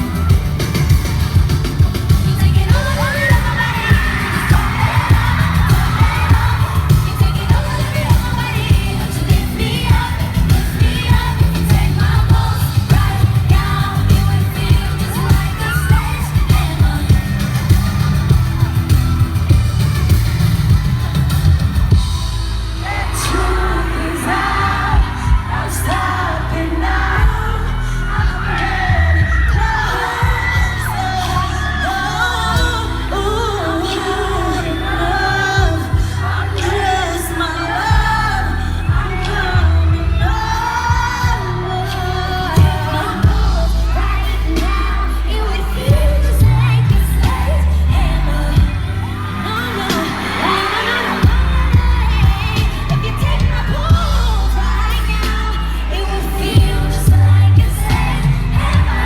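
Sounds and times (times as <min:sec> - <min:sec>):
backing track with heavy bass: 0:00.0 - 0:59.0
female vocal group singing: 0:00.0 - 0:59.0.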